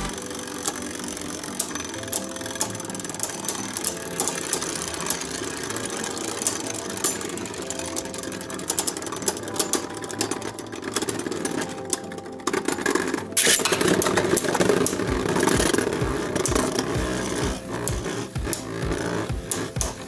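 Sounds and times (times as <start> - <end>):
spinning tops whirring: 0.0 - 20.0
tops clicking together: 0.0 - 20.0.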